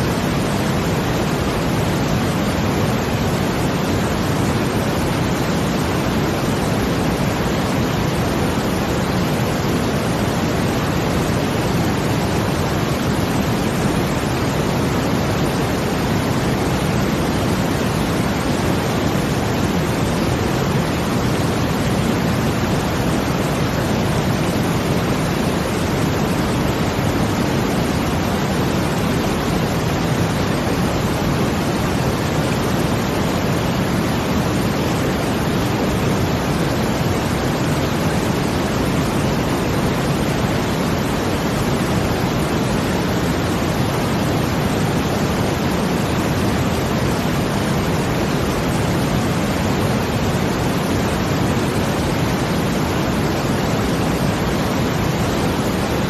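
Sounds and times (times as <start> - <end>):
brown noise: 0.0 - 56.0
water rushing: 0.0 - 56.0.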